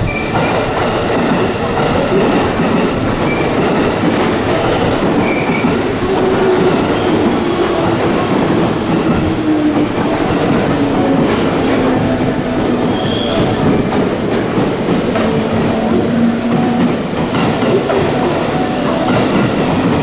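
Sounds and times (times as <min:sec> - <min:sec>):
train wheels clattering: 0:00.0 - 0:20.0.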